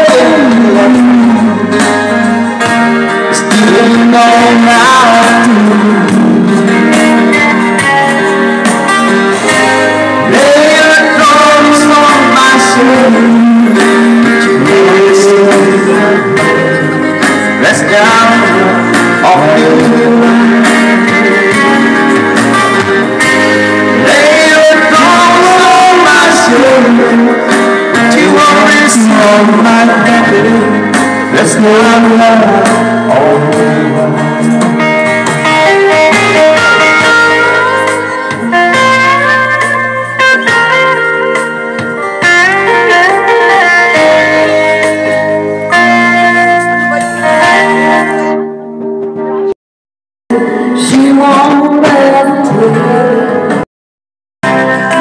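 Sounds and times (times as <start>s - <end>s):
man singing: 0.0s - 48.5s, 50.3s - 53.6s
electronic keyboard music: 0.0s - 49.6s, 54.4s - 55.0s
guitar-like lead line: 0.0s - 49.6s, 50.3s - 53.6s, 54.4s - 55.0s.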